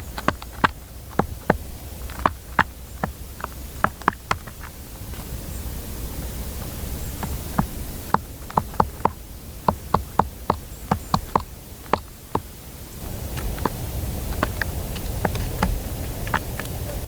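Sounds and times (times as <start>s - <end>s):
wind rumble: 0.0s - 17.0s
woodpecker pecking wood: 0.0s - 17.0s.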